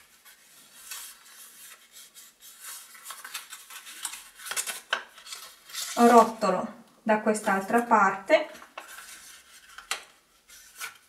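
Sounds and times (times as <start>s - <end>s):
wrapping paper rustling and crinkling: 0.0s - 6.6s, 7.4s - 11.0s.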